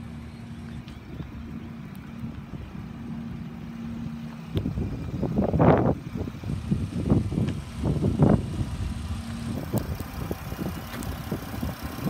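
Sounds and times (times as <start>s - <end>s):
car engine idling: 0.0s - 12.0s
wind rumbling on microphone: 0.0s - 12.0s.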